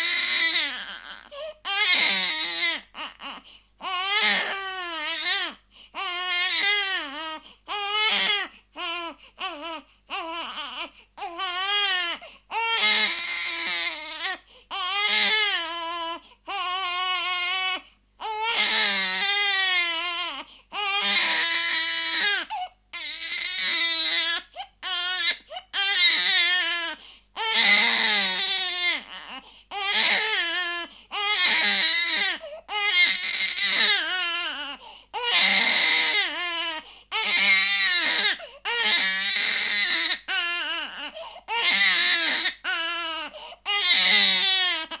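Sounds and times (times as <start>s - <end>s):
baby crying: 0.0s - 45.0s.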